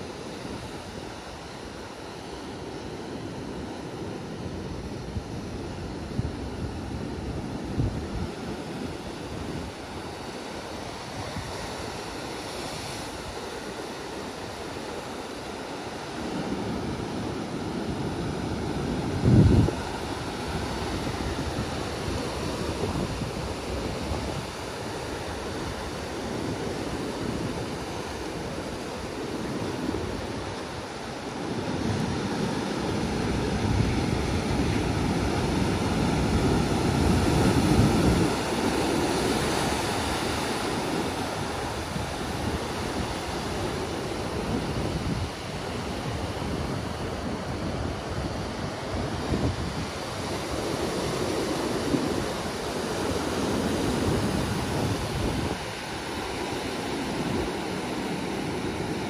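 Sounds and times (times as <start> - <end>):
wind on microphone: 0.0 - 15.1, 15.8 - 59.0
ocean surf breaking: 0.0 - 59.0.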